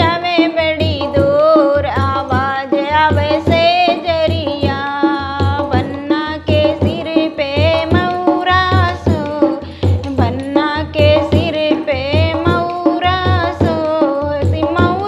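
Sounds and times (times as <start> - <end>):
hand drum beating: 0.0 - 15.0
woman singing folk song: 0.0 - 15.0.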